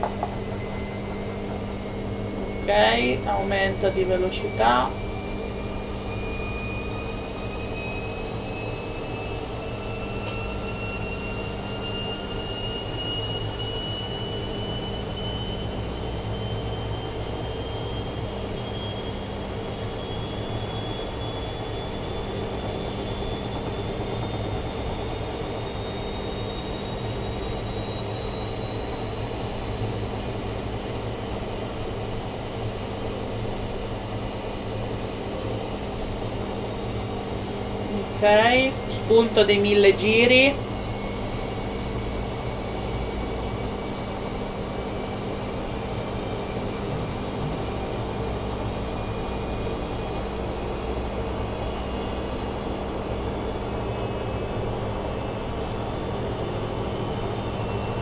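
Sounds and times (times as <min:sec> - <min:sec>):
motor whine rising in pitch: 0:00.0 - 0:58.0.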